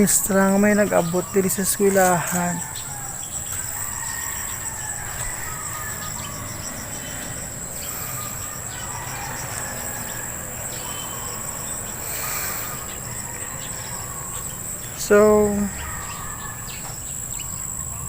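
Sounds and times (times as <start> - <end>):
insect chorus high-pitched shrill: 0.0 - 18.0.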